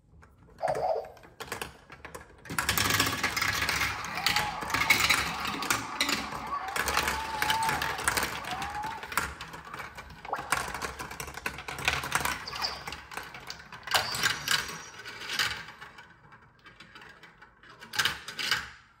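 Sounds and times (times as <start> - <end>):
marbles clattering on plastic track: 1.3 - 18.8.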